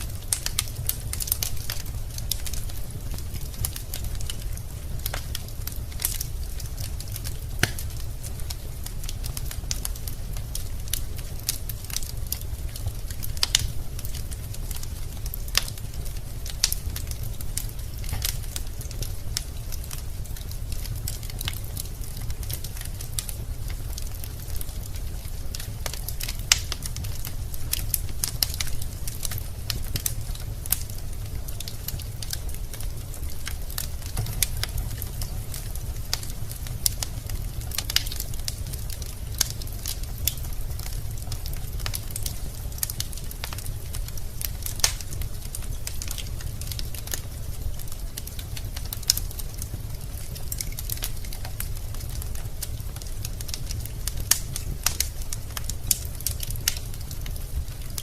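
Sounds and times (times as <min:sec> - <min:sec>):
wood fire crackling in a fireplace: 0:00.0 - 0:58.0.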